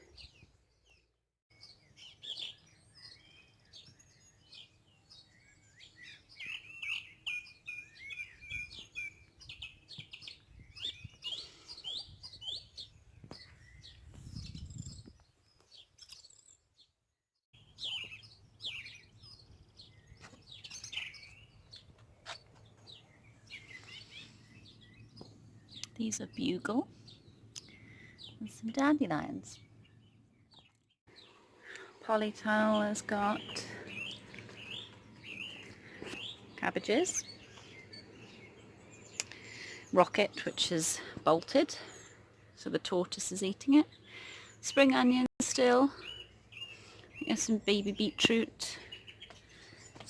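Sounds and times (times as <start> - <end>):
birds singing and chirping: 0.0 - 16.9, 17.6 - 50.0.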